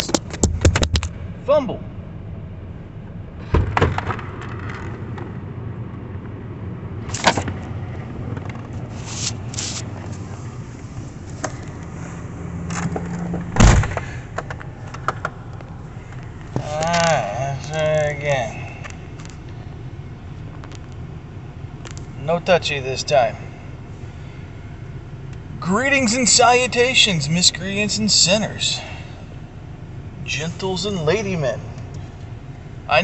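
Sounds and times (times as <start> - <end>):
car engine humming: 0.0 - 33.0.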